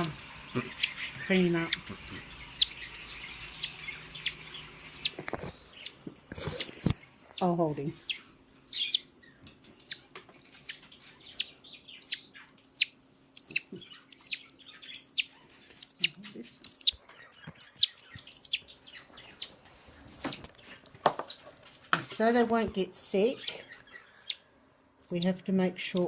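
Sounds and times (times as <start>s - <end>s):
budgie chick chirping: 0.0s - 26.0s.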